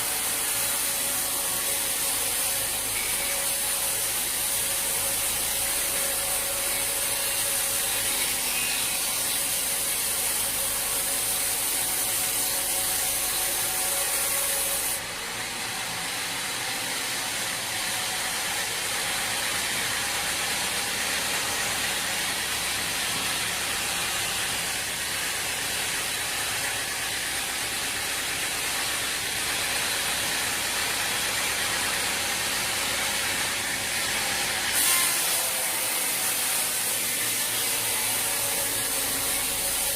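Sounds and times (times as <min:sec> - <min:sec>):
sawmill machinery clatter: 0:00.0 - 0:39.9.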